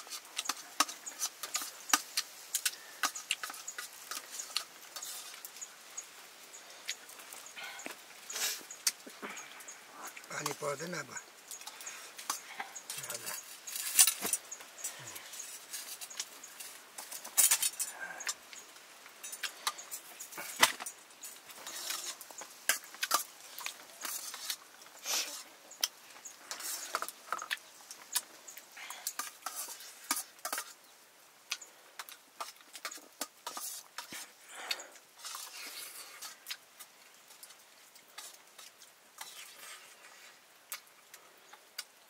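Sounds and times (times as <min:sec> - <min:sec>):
metal pots clinking and scraping: 0:00.0 - 0:05.7, 0:06.8 - 0:18.4, 0:19.2 - 0:30.9, 0:32.0 - 0:34.4, 0:38.2 - 0:40.4.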